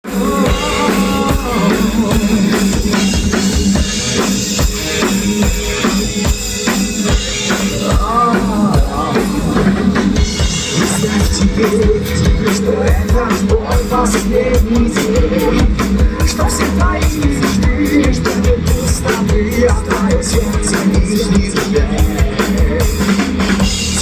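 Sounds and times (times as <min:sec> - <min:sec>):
drum kit steady beat: 0:00.0 - 0:24.0
rock band playing: 0:00.0 - 0:24.0.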